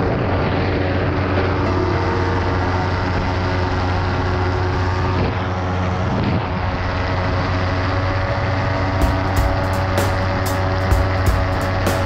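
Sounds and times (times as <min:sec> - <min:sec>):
ultralight aircraft engine and propeller: 0:00.0 - 0:12.0
wind rushing over microphone: 0:00.0 - 0:12.0.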